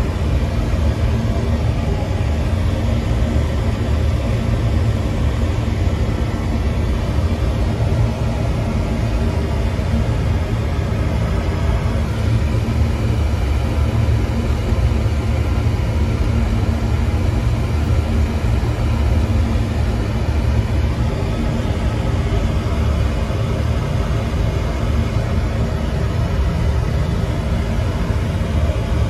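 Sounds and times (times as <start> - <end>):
oil burner rumbling: 0.0 - 29.0.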